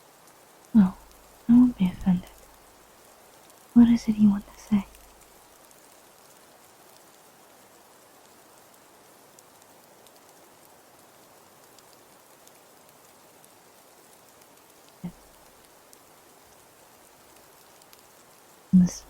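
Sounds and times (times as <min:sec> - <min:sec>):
light scattered ticks: 0:00.0 - 0:19.0
rain-like hiss: 0:00.0 - 0:19.0.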